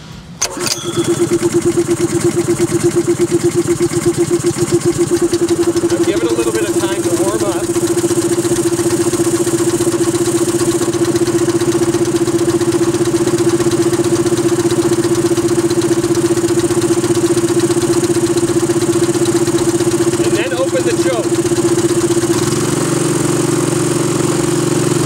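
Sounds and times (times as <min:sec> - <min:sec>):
air compressor engine running: 0:00.0 - 0:25.0.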